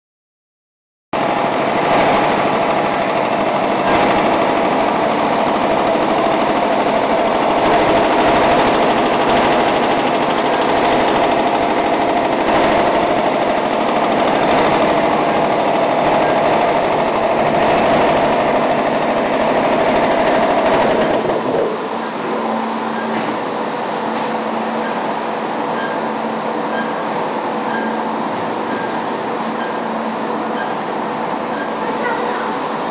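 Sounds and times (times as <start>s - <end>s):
machine whine: 1.2s - 32.9s
packing machinery drone: 1.2s - 32.9s.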